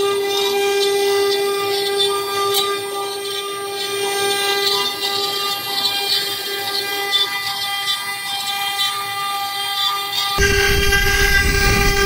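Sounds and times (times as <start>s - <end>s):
router spindle high whine: 0.0s - 12.0s.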